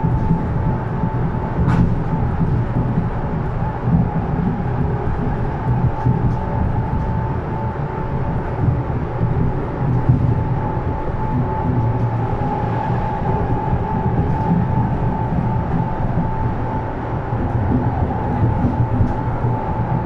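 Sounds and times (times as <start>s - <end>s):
electric train running: 0.0s - 20.0s.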